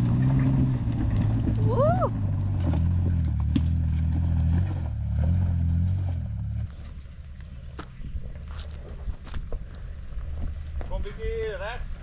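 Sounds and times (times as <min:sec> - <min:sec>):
off-road vehicle engine labouring: 0:00.0 - 0:12.0.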